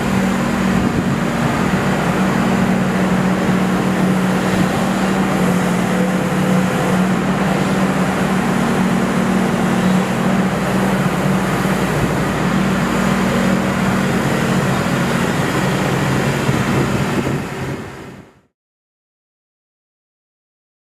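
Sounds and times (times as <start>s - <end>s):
excavator diesel engine droning: 0.0s - 18.5s.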